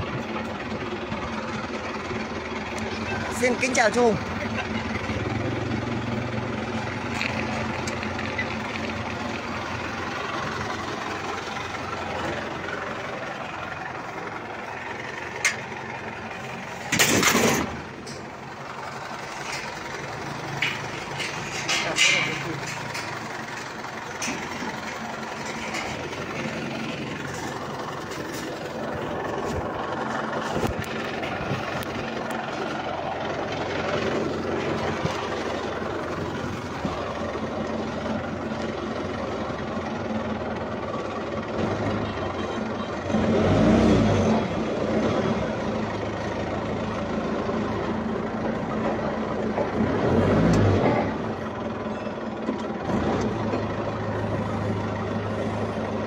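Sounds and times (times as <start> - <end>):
tractor diesel engine idling: 0.0 - 56.0
tractor engine revving: 0.0 - 56.0.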